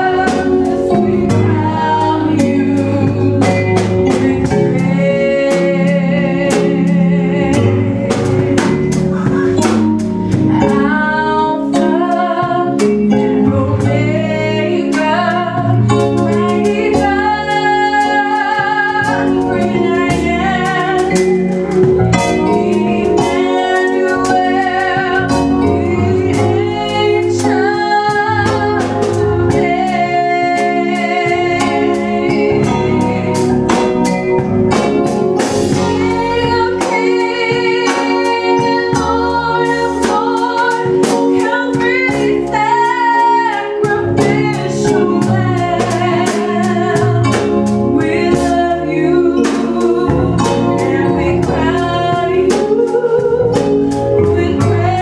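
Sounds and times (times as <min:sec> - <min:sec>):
drum kit beat: 0:00.0 - 0:55.0
electronic keyboard: 0:00.0 - 0:55.0
woman singing into microphone: 0:00.0 - 0:55.0.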